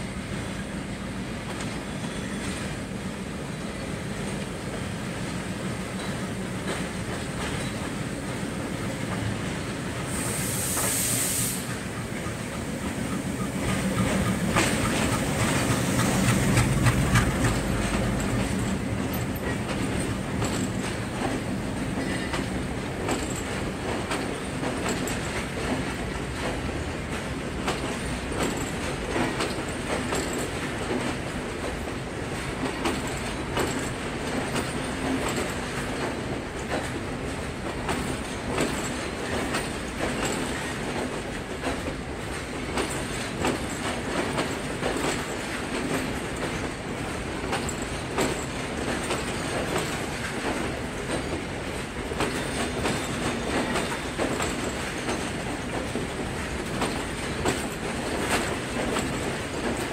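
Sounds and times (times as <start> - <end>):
train rumbling past: 0.0 - 59.9
wheel clacks over rail joints: 11.7 - 59.9.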